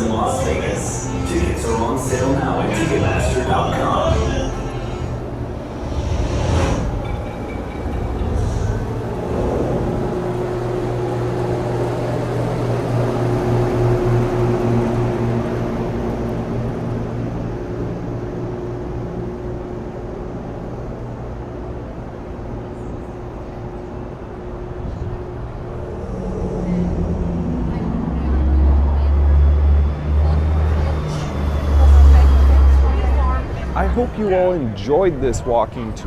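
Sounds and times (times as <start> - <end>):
road noise: 0.0 - 36.0.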